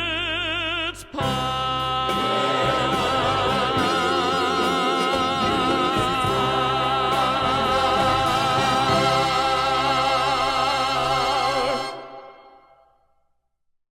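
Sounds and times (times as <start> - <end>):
sustained accompaniment: 1.2 - 12.9.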